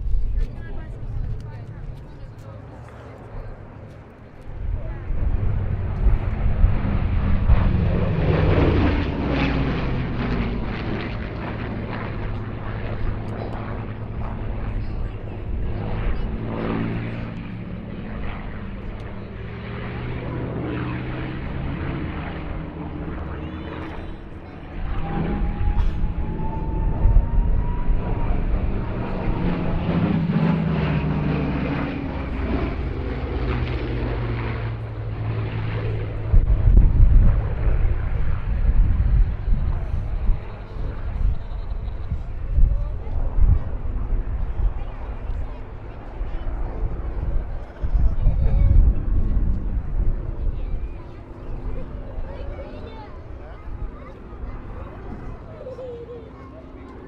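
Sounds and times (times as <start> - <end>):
propeller planes passing low: 0.0 - 57.0.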